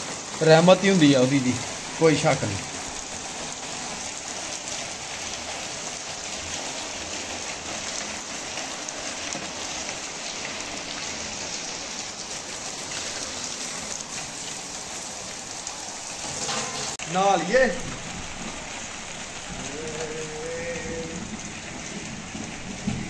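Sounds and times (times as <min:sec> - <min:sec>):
heavy rain splashing on water: 0:00.0 - 0:23.0.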